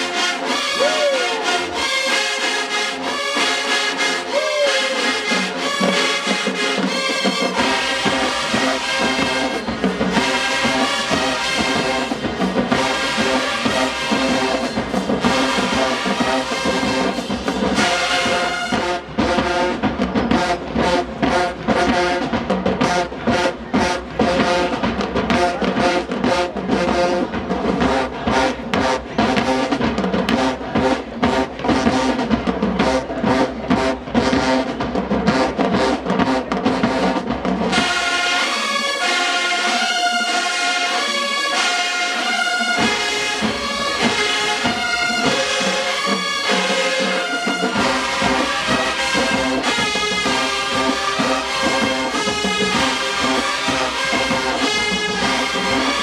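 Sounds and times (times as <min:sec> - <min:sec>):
brass section playing: 0:00.0 - 0:56.0
drumline drumming: 0:00.0 - 0:56.0.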